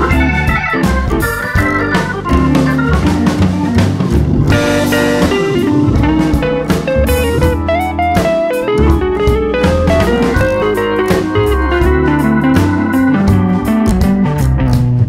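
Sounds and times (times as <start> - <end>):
instrumental music with guitar: 0.0 - 15.0.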